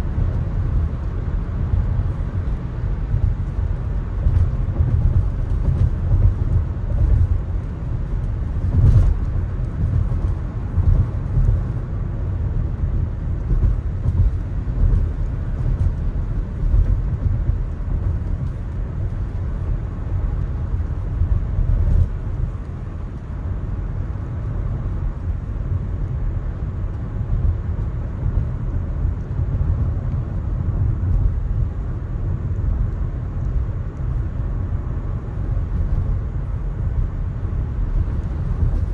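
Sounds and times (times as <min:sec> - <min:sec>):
tyre and road noise: 0:00.0 - 0:38.9.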